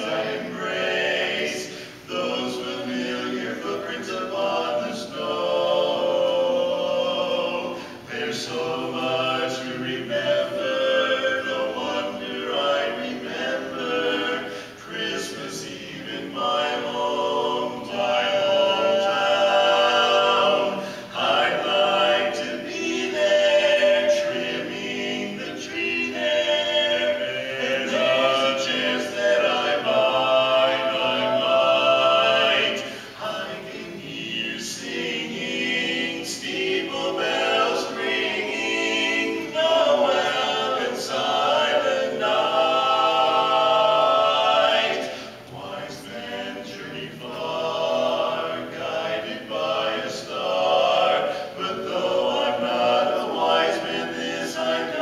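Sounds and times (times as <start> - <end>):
men singing in harmony: 0.0 - 55.0.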